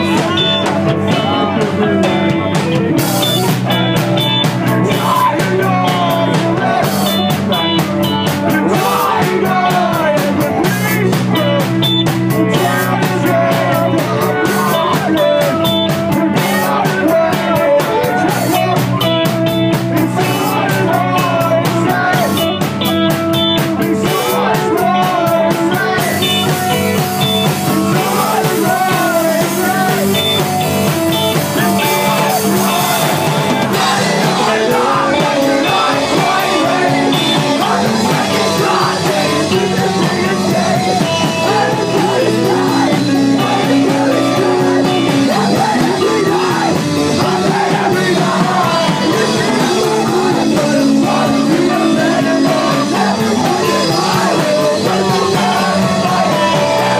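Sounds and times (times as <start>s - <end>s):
live rock band playing: 0.0s - 56.9s
sung vocals: 0.0s - 56.9s.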